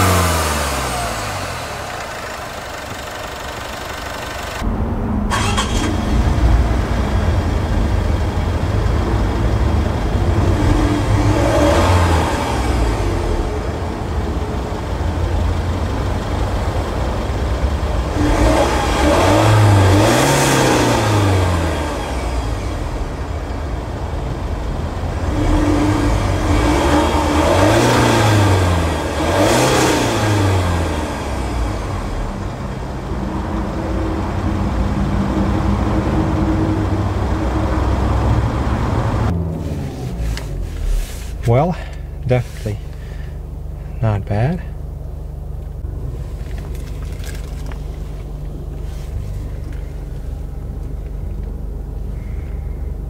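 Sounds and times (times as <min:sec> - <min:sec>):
diesel engine idling and revving: 0:00.0 - 0:53.0.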